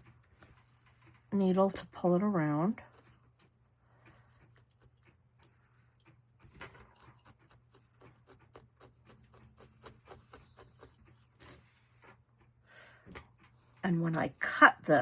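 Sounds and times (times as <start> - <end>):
light scratching on felt: 0.0 - 12.6
low electrical hum: 0.0 - 15.0.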